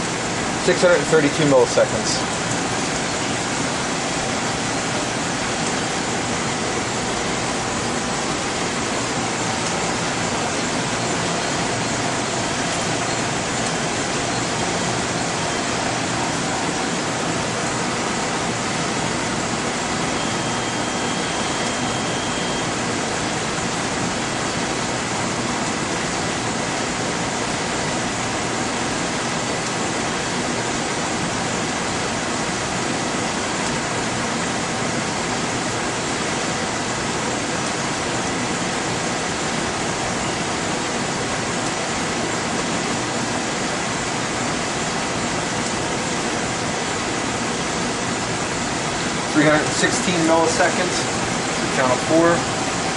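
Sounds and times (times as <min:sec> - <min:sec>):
machinery and ventilation hum: 0:00.0 - 0:52.9.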